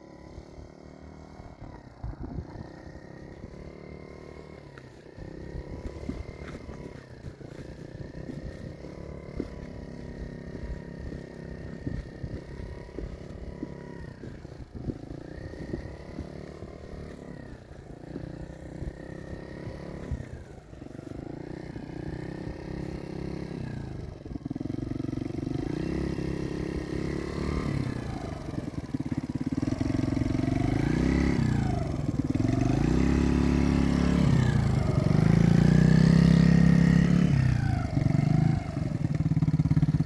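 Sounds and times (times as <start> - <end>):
small atv engine revving: 0.0 - 40.0.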